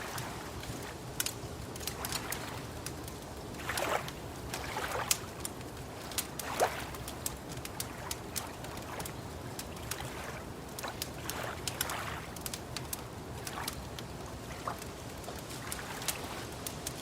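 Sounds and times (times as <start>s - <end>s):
water lapping: 0.0s - 17.0s
wood fire crackling: 0.0s - 17.0s.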